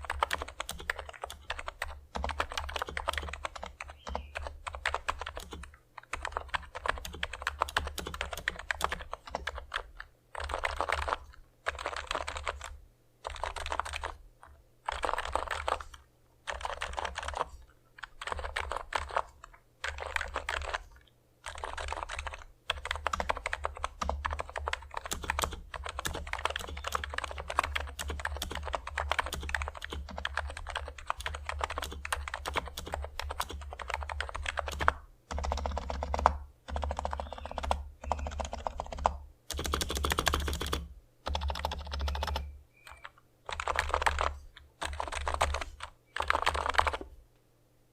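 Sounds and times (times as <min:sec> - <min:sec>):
keyboard typing: 0:00.0 - 0:47.1.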